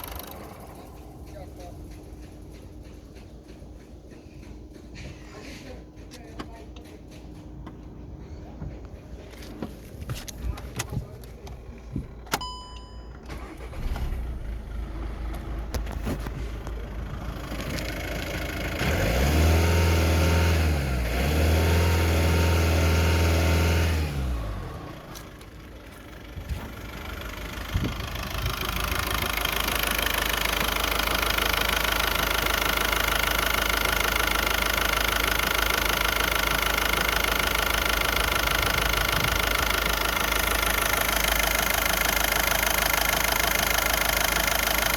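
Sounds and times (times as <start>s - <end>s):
diesel engine idling with clatter: 0.0s - 44.9s.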